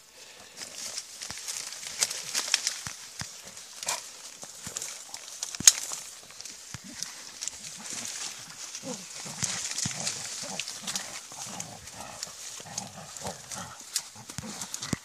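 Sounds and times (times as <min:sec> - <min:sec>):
reed stalks rustling and cracking: 0:00.2 - 0:15.0
dogs growling: 0:01.6 - 0:05.4, 0:06.0 - 0:15.0.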